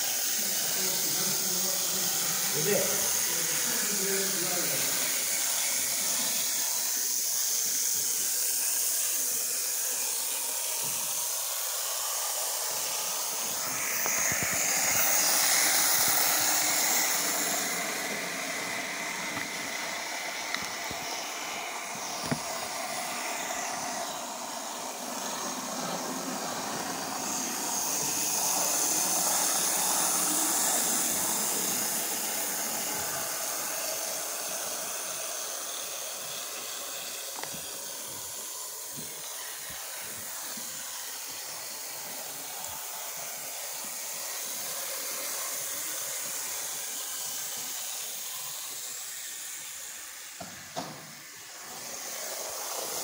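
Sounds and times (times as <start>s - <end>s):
steady hissing noise: 0.0s - 53.0s.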